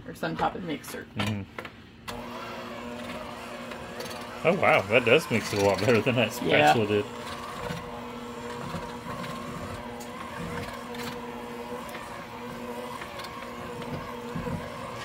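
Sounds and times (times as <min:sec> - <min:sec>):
electric hand mixer running: 0:02.1 - 0:15.0.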